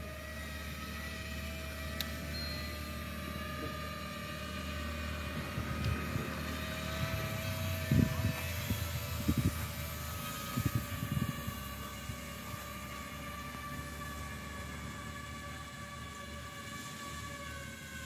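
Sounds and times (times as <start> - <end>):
drone propellers humming: 0.0 - 18.0.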